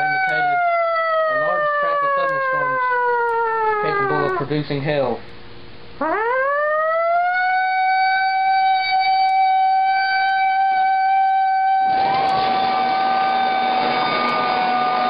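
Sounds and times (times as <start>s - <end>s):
man imitating a siren: 0.0s - 4.6s, 6.0s - 15.0s.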